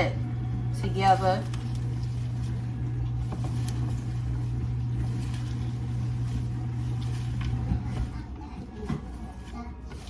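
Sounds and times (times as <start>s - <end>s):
electric motor hum: 0.0s - 8.4s.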